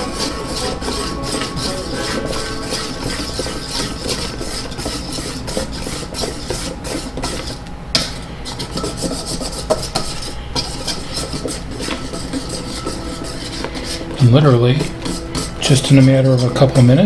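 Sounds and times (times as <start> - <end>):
whisk scraping metal bowl: 0.0 - 17.0
whisk clicking against bowl: 0.2 - 14.2.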